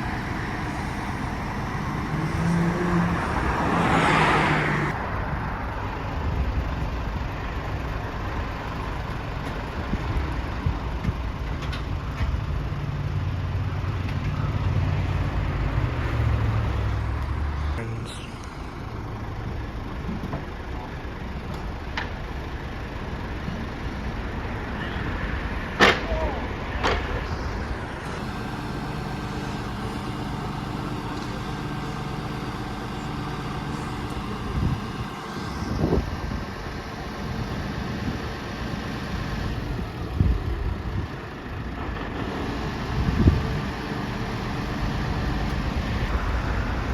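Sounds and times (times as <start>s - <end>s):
heavy truck engine running: 0.0s - 46.9s.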